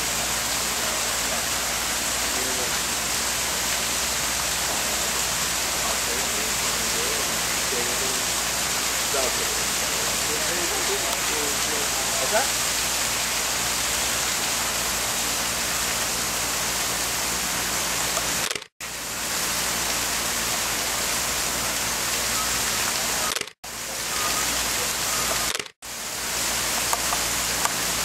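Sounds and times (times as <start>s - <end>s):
steady rushing hiss: 0.0s - 28.0s.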